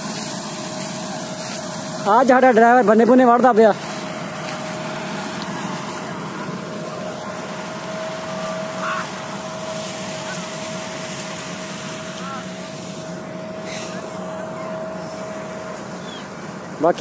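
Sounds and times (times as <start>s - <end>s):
combine harvester engine hum: 0.0s - 17.0s
steady whine: 0.0s - 17.0s.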